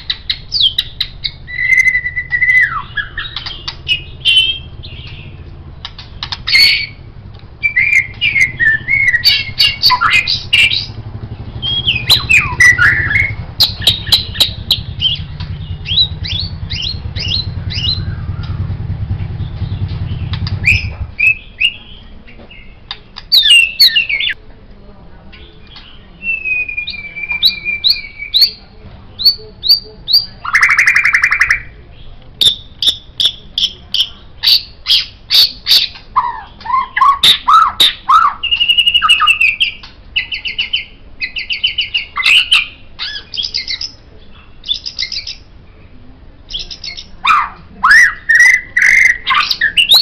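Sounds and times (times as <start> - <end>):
songbird singing whistles: 0.0 - 18.8, 19.4 - 24.4, 25.6 - 31.8, 32.4 - 44.0, 44.6 - 45.5, 46.5 - 50.0.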